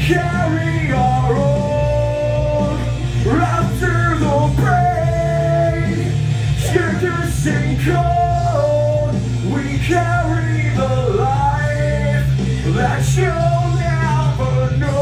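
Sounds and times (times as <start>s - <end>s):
loud rock music: 0.0s - 15.0s
man singing rock vocals: 0.0s - 15.0s.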